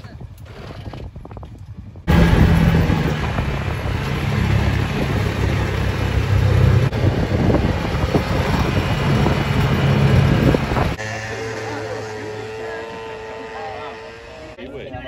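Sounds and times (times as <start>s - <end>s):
wind and road noise: 0.0s - 15.0s
buggy engine running: 2.0s - 14.7s.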